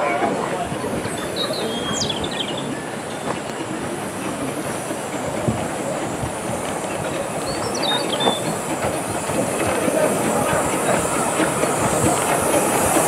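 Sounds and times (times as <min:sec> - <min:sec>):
train wheels clacking on rail joints: 0:00.0 - 0:13.0.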